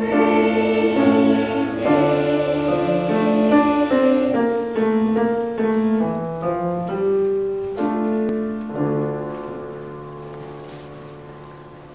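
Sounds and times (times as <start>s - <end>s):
piano chords: 0.0s - 11.9s.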